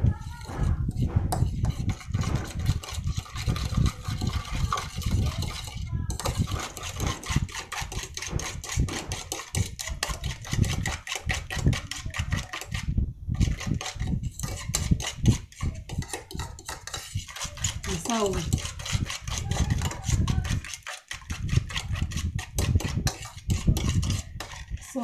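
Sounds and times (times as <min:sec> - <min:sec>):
fork whisking in ceramic bowl: 0:00.0 - 0:25.0.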